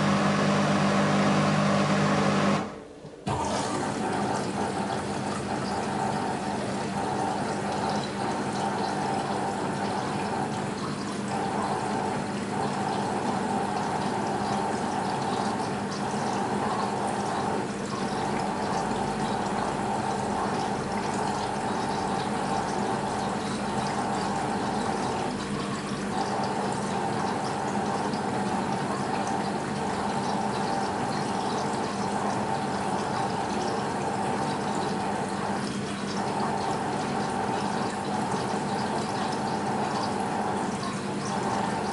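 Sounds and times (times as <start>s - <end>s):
washing machine hum: 0.0s - 41.9s.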